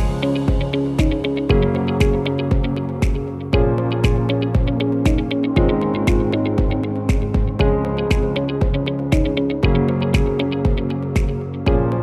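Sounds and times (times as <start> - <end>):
kick drum: 0.0 - 12.0
sustained synthesizer chords: 0.0 - 12.0.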